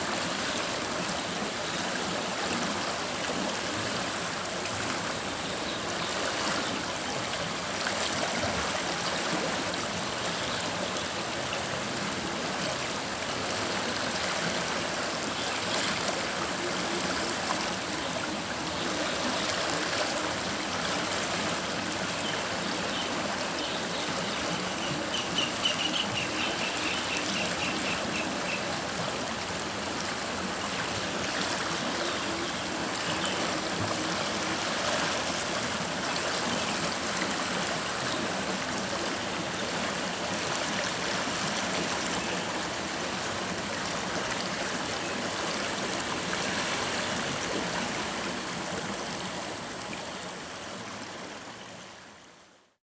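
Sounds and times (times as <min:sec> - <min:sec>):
river water flowing over stones: 0:00.0 - 0:52.8.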